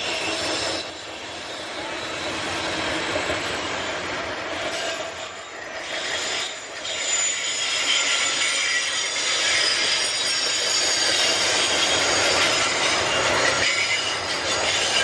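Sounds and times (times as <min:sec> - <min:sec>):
high wheel squeal: 0:00.0 - 0:15.0
railway cars rumbling and clattering: 0:00.0 - 0:15.0.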